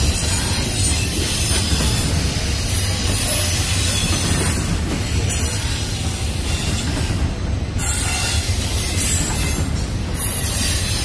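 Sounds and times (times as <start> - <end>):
steel train wheels rumbling on rail: 0.0 - 11.0.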